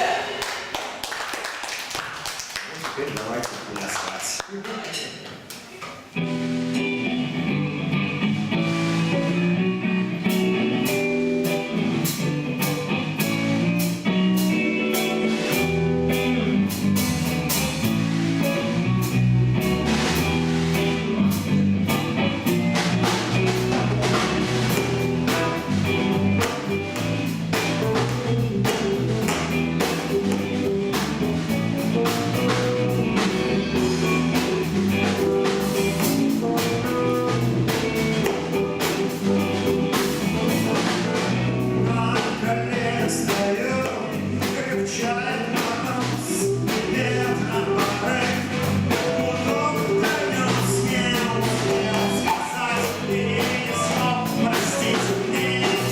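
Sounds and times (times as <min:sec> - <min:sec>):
guitar: 0:00.0 - 0:04.1, 0:04.9 - 0:55.9
drum kit: 0:00.0 - 0:55.9
low bass line: 0:07.2 - 0:55.9.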